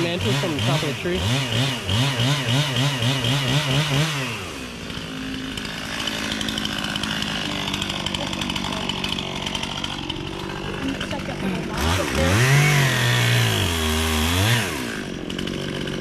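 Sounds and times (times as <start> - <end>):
chainsaw revving and idling: 0.0 - 16.0.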